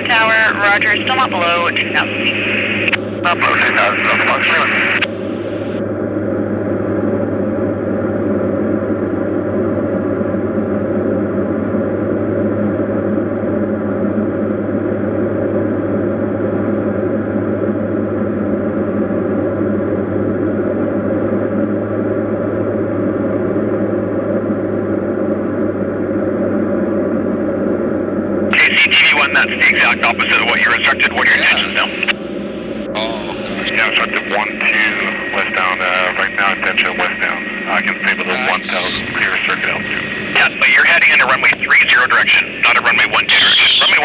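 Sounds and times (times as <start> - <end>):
propeller aircraft engine drone: 0.0 - 44.0.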